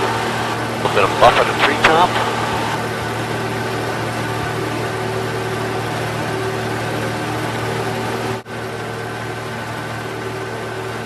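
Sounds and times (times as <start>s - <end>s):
small airplane engine drone: 0.0s - 11.0s.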